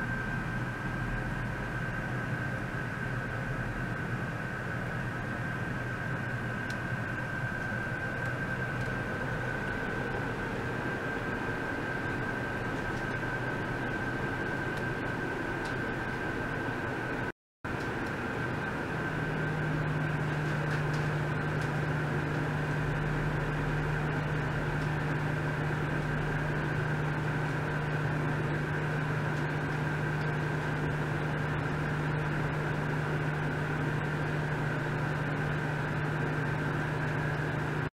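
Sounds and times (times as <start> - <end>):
high whine: 0.0 - 37.9
low hum: 0.0 - 37.9.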